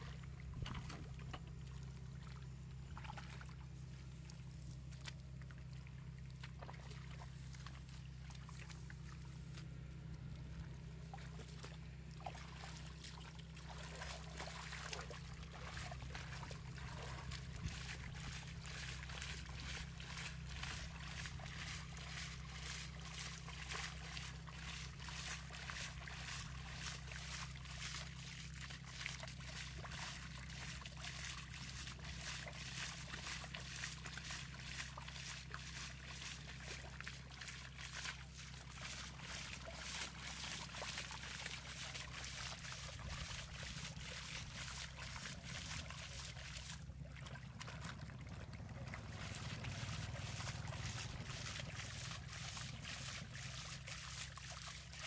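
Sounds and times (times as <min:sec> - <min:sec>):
hands sloshing in muddy water: 0:00.0 - 0:55.0
low hum: 0:00.0 - 0:55.0.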